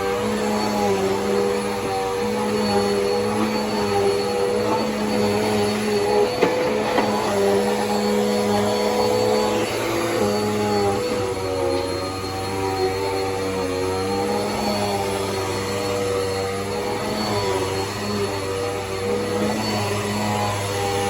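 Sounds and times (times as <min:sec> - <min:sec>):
upright vacuum cleaner running: 0:00.0 - 0:21.0.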